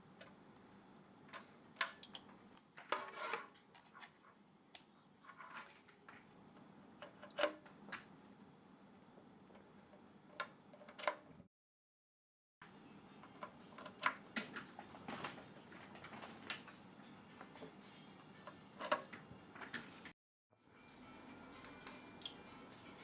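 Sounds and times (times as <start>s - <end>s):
low room noise: 0.0s - 11.5s, 12.6s - 23.0s.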